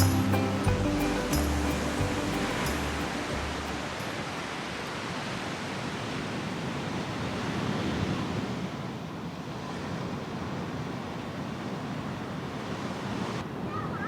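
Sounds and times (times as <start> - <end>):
sea surf rushing: 0.0 - 13.9
wind: 0.0 - 14.0.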